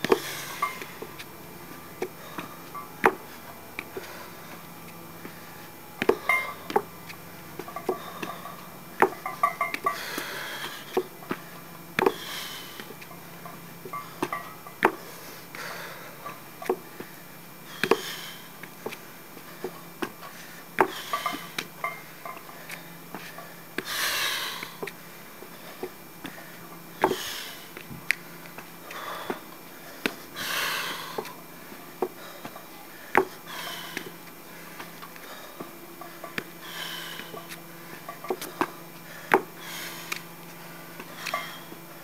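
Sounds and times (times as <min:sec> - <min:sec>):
man breathing heavily: 0:00.0 - 0:42.0.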